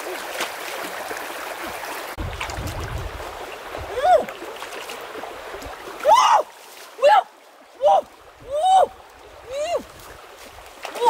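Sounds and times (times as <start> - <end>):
stream water sloshing around feet: 0.0 - 11.0.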